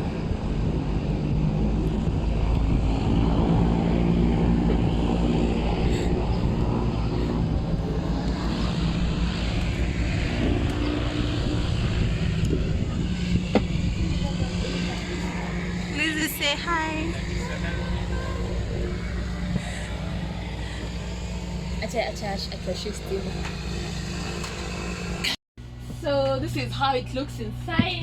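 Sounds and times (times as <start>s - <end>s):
aircraft engine droning: 0.0s - 28.0s
wind buffeting microphone: 0.0s - 28.0s.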